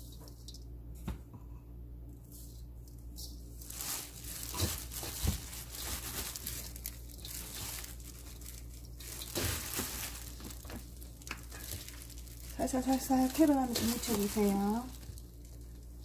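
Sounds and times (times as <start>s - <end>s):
plastic glove crinkling: 2.2s - 16.0s
wet rustling of leaves: 2.2s - 16.0s.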